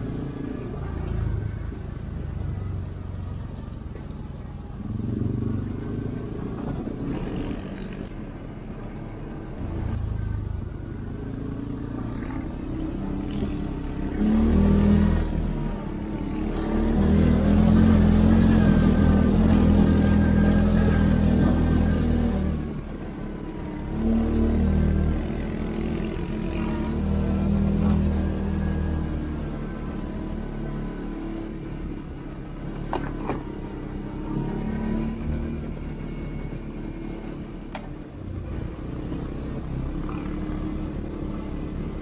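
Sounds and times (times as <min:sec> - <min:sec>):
atv engine surging: 0:00.0 - 0:42.0.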